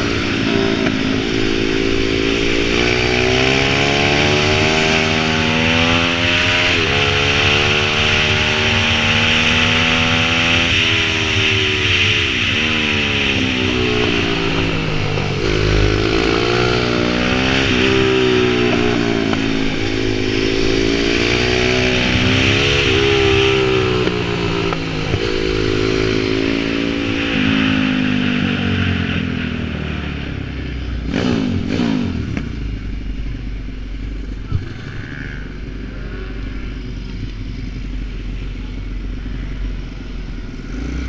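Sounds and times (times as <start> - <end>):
pit bike engine revving: 0.0 - 41.0.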